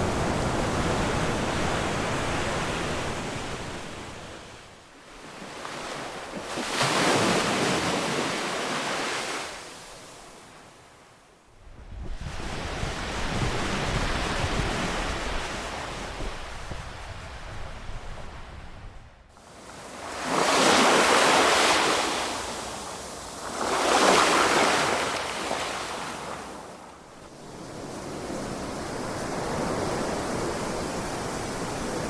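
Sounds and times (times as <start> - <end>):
ocean surf washing ashore: 0.0 - 10.8, 12.0 - 32.0.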